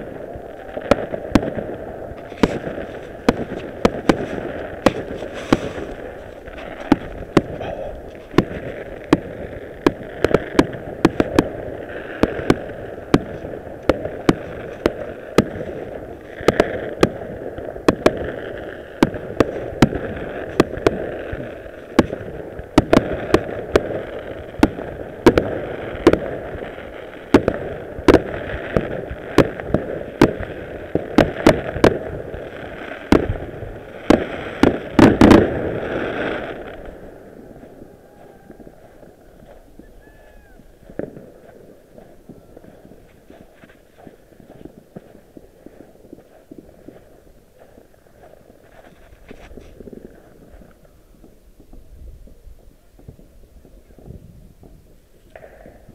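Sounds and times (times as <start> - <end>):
fireworks bangs and pops: 0.0 - 55.9
fireworks crackling: 0.0 - 55.9.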